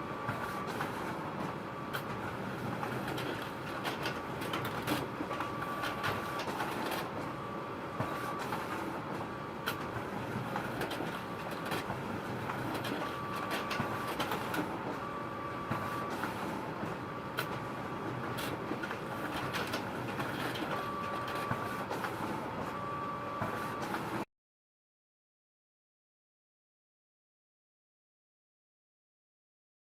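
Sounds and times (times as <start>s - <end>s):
photocopier whirring: 0.0s - 24.3s.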